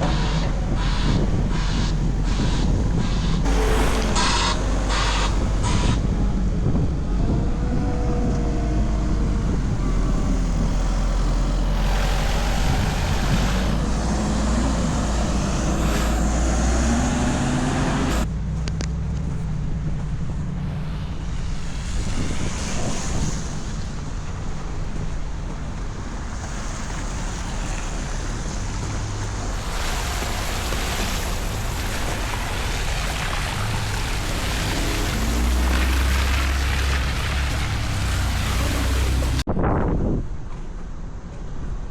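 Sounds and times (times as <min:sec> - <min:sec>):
traffic hissing on slushy road: 0:00.0 - 0:18.3, 0:20.5 - 0:39.5
wind rumbling on microphone: 0:00.0 - 0:41.9.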